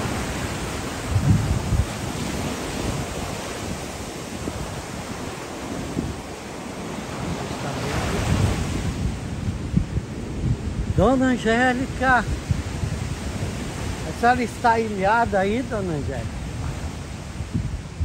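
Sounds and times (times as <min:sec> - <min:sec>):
waves breaking on sand and rocks: 0:00.0 - 0:18.0
wind buffeting microphone: 0:00.0 - 0:18.0.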